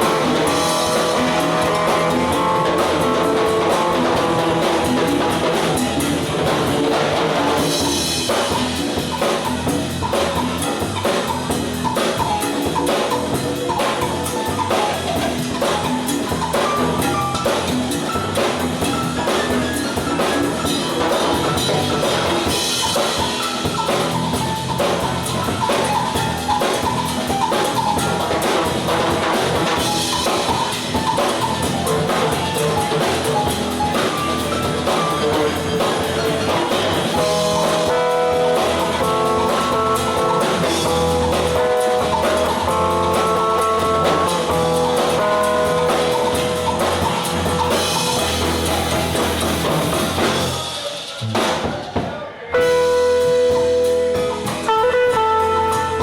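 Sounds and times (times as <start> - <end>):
guitar lines: 0.0 - 17.4, 20.2 - 50.8, 52.6 - 56.0
drum-kit groove: 0.0 - 56.0.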